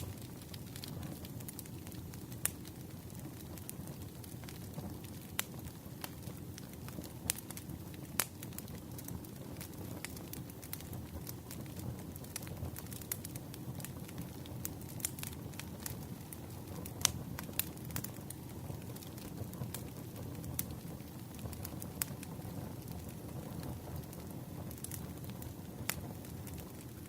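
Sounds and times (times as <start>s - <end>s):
campfire flames rumbling: 0.0s - 27.0s
fire crackling and popping: 0.0s - 27.0s.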